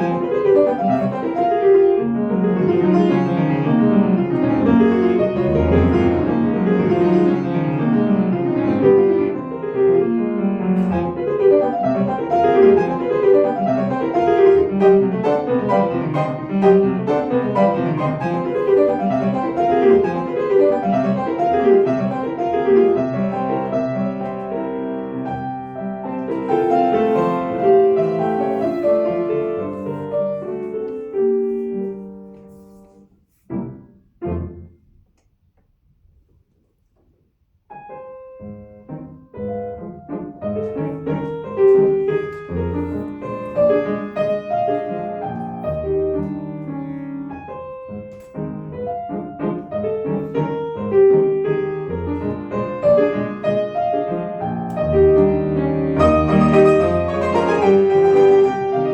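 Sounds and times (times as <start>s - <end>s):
solo piano classical music: 0.0s - 58.9s.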